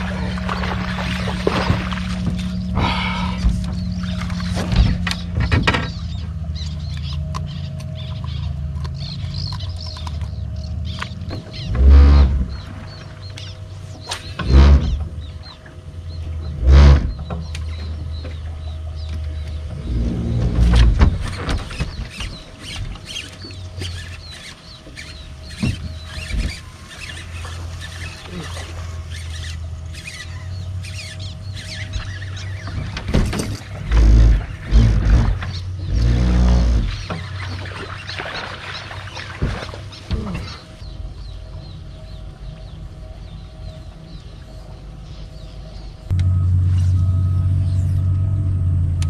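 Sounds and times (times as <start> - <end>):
faint whine: 0.0 - 49.0
low hum: 0.0 - 49.0.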